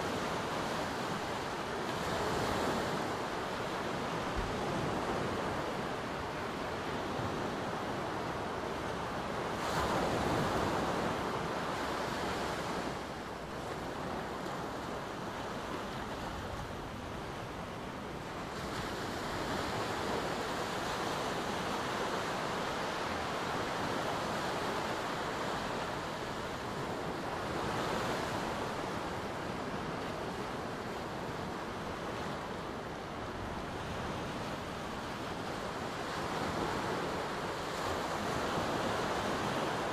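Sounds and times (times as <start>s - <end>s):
small waves washing on sand: 0.0s - 39.9s.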